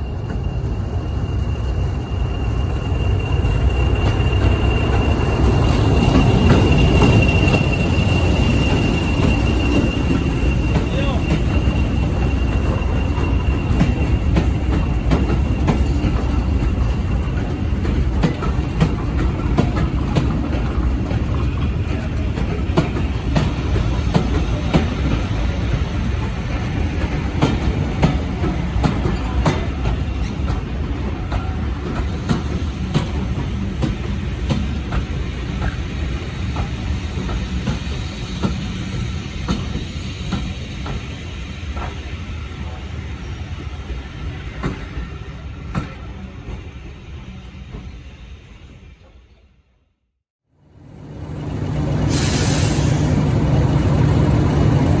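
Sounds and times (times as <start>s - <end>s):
train rumble: 0.0s - 49.5s, 50.6s - 55.0s.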